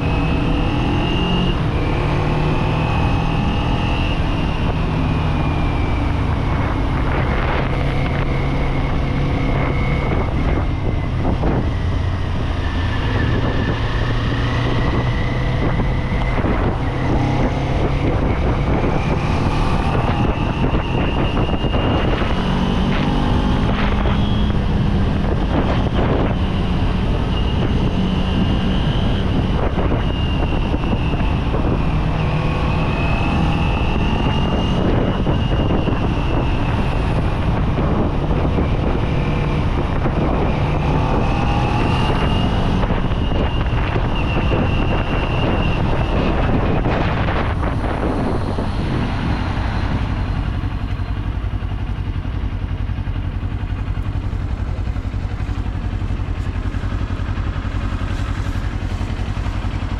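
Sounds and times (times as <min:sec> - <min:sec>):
wind rushing: 0:00.0 - 0:52.2
motorcycle engine while riding: 0:00.0 - 0:59.9.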